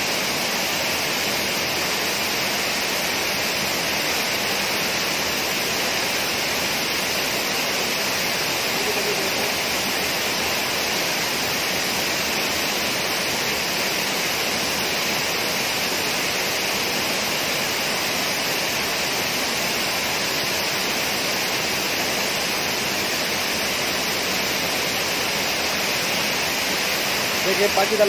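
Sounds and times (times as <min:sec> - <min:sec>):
water rushing over weir: 0:00.0 - 0:28.0.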